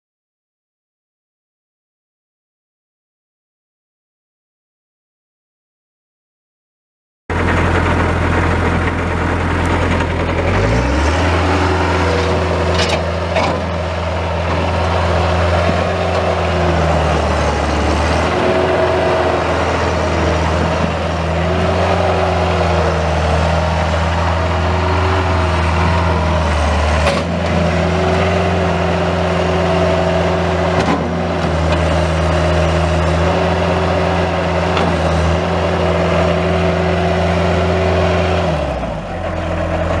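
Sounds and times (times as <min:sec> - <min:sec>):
diesel engine at high throttle: 0:07.3 - 0:40.0.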